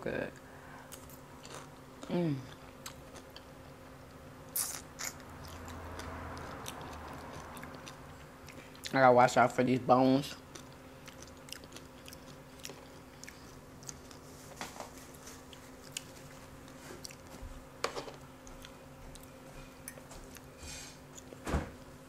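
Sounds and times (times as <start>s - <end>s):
chewing and mouth noises: 0.9s - 9.1s, 10.4s - 17.5s, 18.4s - 21.4s.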